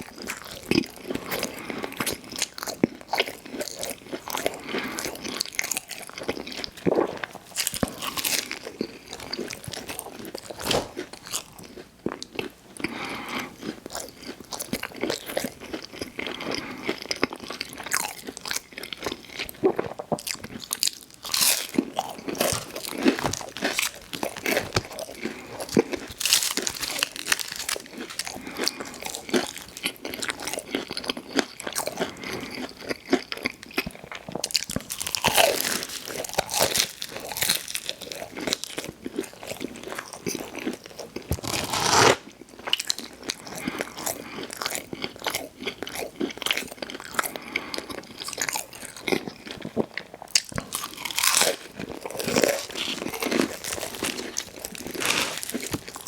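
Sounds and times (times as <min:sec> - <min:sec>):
crunchy chewing of food: 0:00.0 - 0:56.0.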